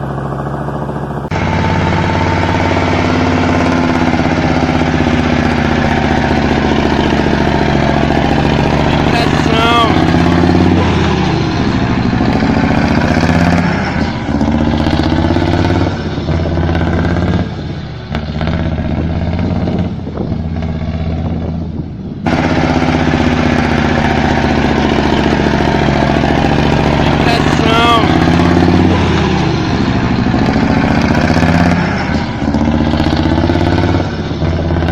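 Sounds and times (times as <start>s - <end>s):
engine revving with deep rumbling exhaust: 0.0s - 34.9s.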